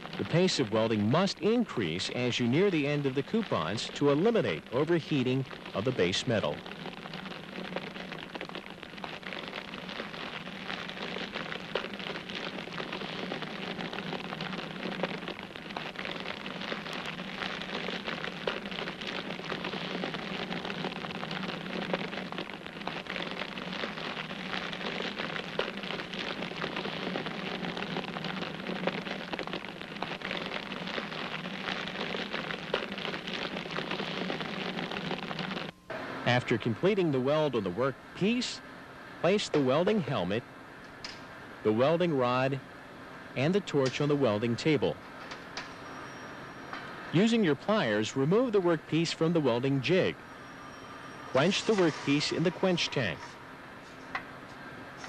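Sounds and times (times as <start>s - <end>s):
welding arc crackling hiss: 0.0s - 55.0s.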